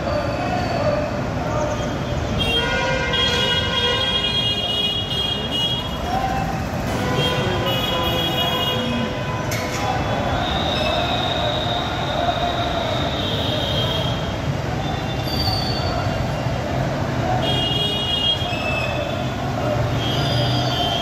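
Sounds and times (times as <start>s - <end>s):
traffic din: 0.0s - 21.0s.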